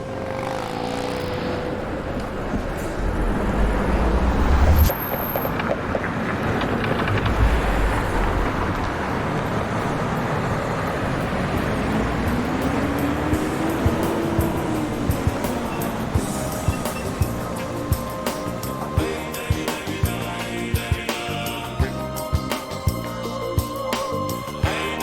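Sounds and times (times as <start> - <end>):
engine note rising: 0.0 - 5.6, 7.0 - 25.0
vehicles passing: 0.0 - 25.0
heavy low rumbles: 1.8 - 5.0, 6.5 - 25.0.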